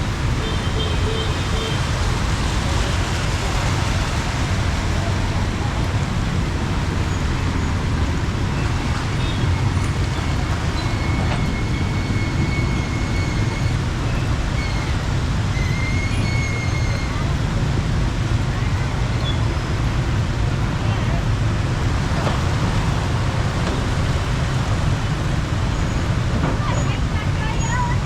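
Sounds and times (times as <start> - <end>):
heavy rain falling: 0.0 - 28.0
road traffic: 0.0 - 28.0.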